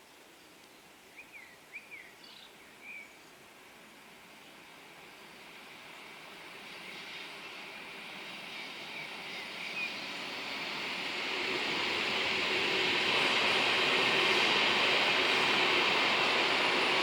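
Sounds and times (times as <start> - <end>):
train approaching: 3.2 - 17.0.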